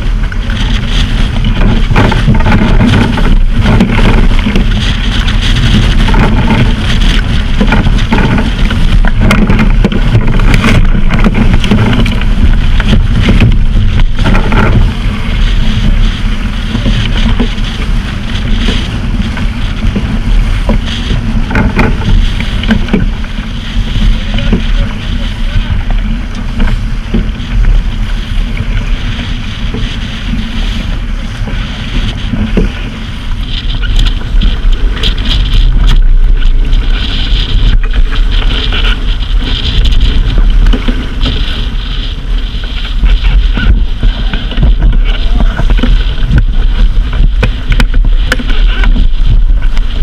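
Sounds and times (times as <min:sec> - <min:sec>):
water splashing along boat hull: 0:00.0 - 0:50.0
wind buffeting microphone: 0:00.0 - 0:50.0.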